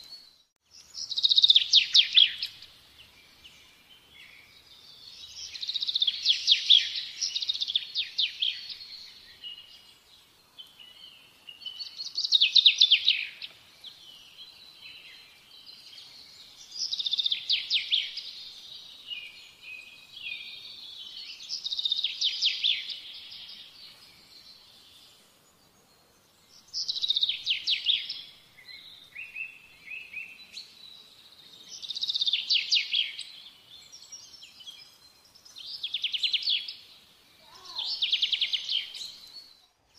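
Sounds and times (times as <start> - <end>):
quiet bird twittering: 0.0 - 39.9
bird singing trilled phrases: 0.1 - 39.8.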